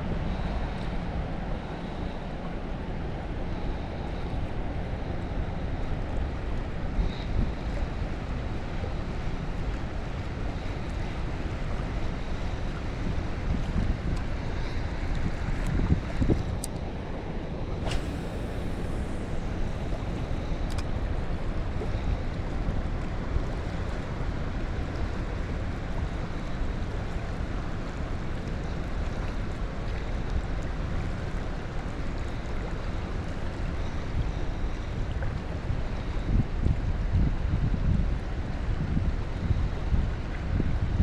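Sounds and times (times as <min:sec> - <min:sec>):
flowing river water: 0:00.0 - 0:41.0
wind rumbling on microphone: 0:00.0 - 0:41.0.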